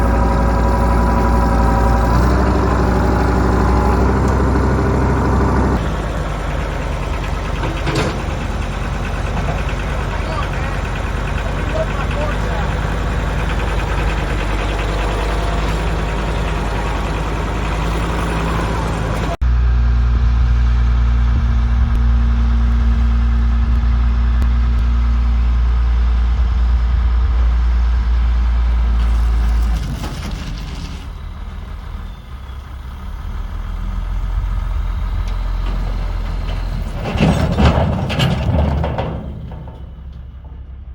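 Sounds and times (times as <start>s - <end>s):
heavy vehicle engine running: 0.0s - 40.9s.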